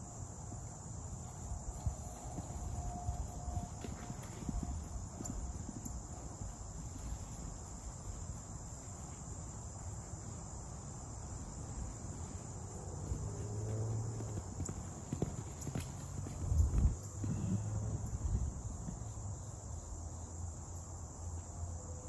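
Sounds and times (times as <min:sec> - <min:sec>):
horse hoofbeats on grass: 0:00.5 - 0:19.6.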